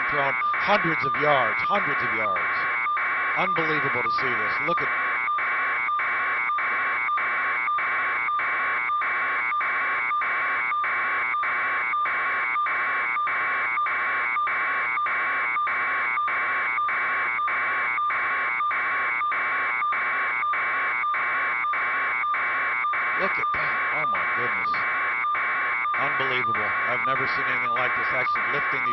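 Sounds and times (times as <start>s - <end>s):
pulsing electronic alarm: 0.0s - 28.9s.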